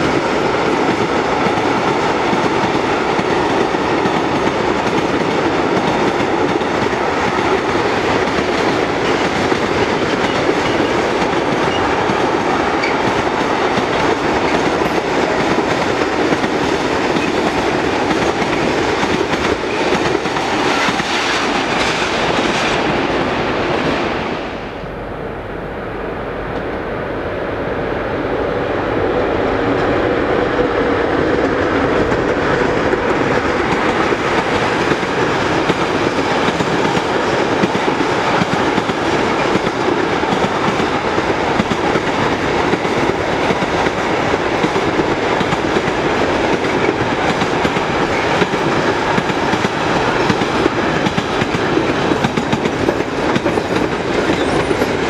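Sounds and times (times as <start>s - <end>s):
freight train wagons rolling past: 0.0s - 25.2s, 28.2s - 55.0s.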